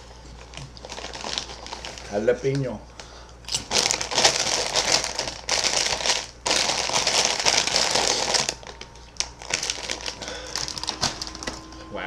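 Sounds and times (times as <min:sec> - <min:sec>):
chip bag crinkling: 0:00.3 - 0:11.9.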